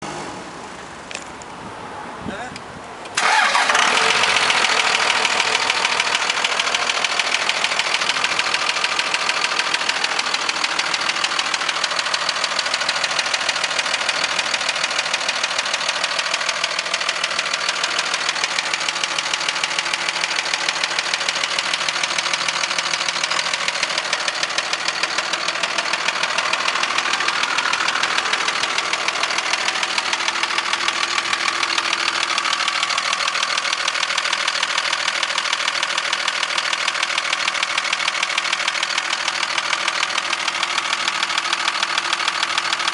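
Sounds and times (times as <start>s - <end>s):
diesel engine clattering: 2.4s - 42.9s.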